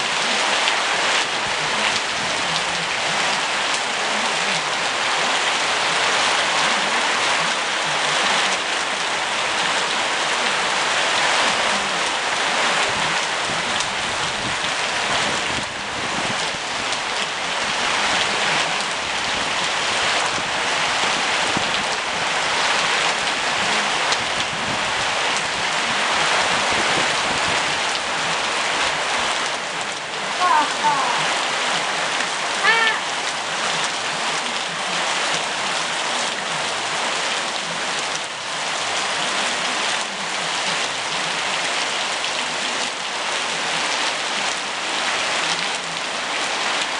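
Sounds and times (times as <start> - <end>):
rain falling: 0.0 - 46.9.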